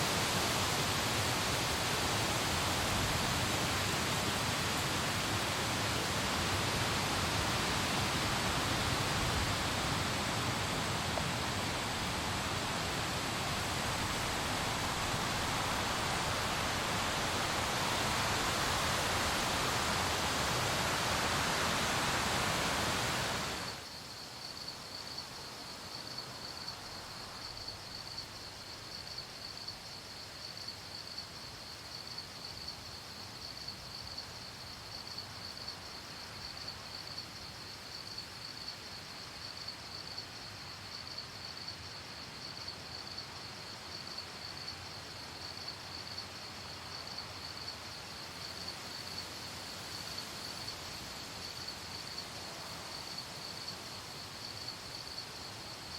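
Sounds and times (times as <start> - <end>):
crickets chirping: 0.0 - 55.9
heavy rain hiss: 0.0 - 55.9.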